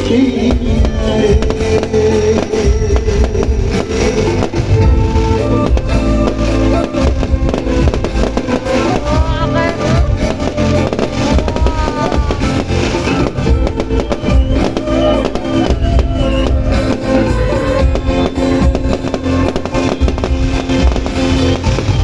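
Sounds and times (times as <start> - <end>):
band music over loudspeakers: 0.0 - 22.0
fireworks popping and banging: 0.0 - 22.0.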